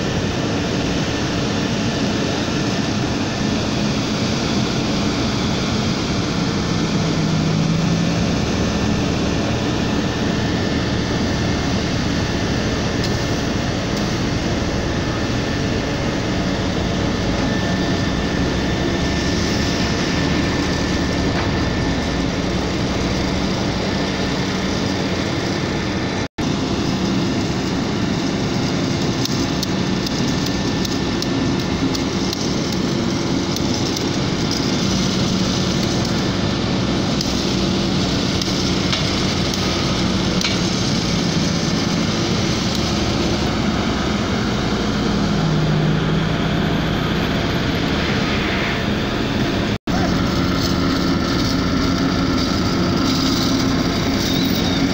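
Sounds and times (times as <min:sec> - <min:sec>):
heavy machinery engines running: 0:00.0 - 0:54.9.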